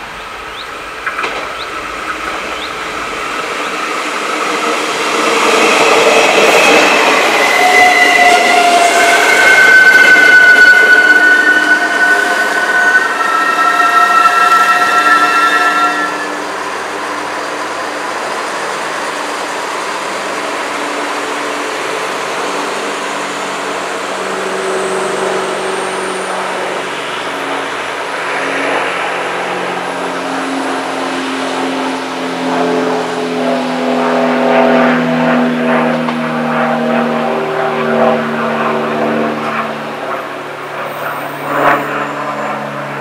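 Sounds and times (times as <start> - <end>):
diesel railcar engine drone: 0.0 - 43.0.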